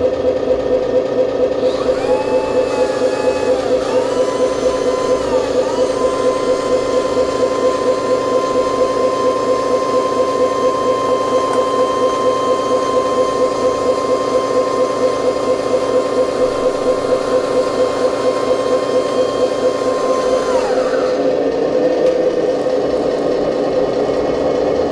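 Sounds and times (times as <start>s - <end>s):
electric motor and pump whining: 1.4s - 24.9s.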